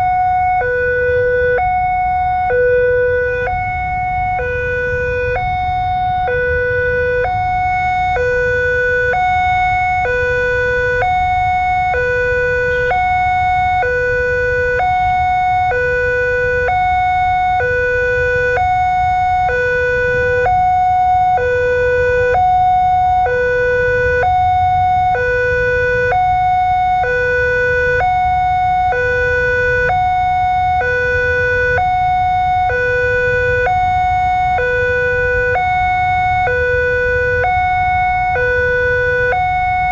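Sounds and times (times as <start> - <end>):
idling traffic rumble: 0.0 - 39.9
two-tone crossing alarm: 0.0 - 39.9.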